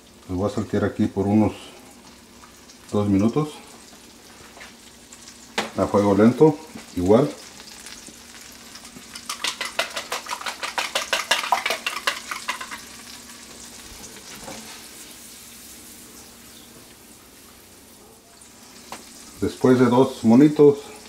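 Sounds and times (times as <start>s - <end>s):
food sauteing in butter: 0.0s - 21.0s.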